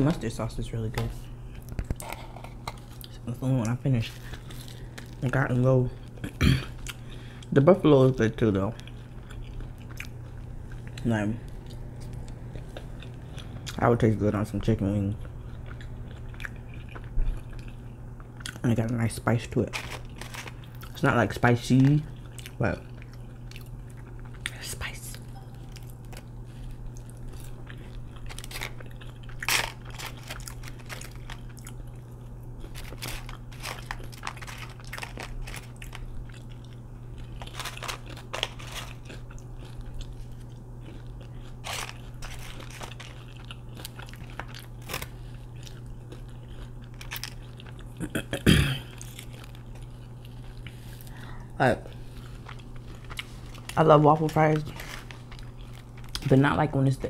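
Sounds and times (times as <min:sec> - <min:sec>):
chewing and crunching fries: 0:00.0 - 0:57.0
steady low hum: 0:00.0 - 0:57.0.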